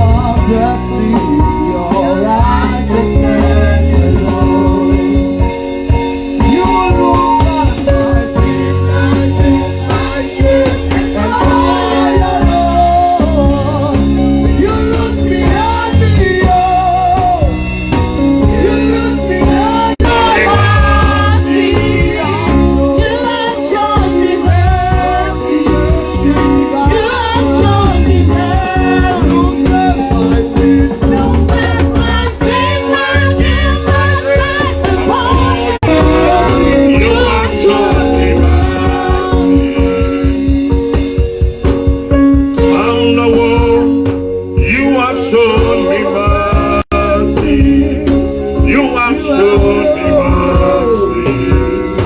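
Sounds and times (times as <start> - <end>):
gospel singing with band: 0.0 - 52.0.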